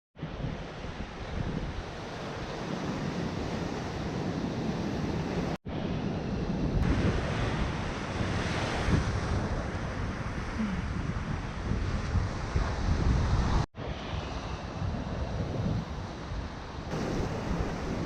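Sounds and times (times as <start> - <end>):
ocean surf washing in: 0.2 - 18.0
wind buffeting microphone: 0.2 - 18.0.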